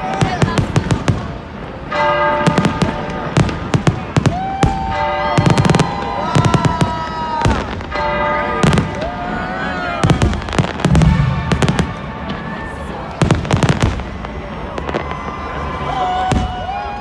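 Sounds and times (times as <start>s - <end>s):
fireworks bangs and cracks: 0.0s - 17.0s.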